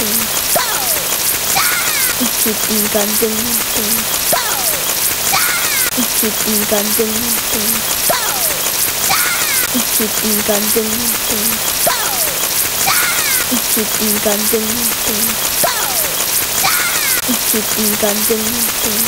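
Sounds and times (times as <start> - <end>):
falling chirps: 0.0 - 6.0, 7.0 - 17.3
steady rain-like hiss: 0.0 - 19.0.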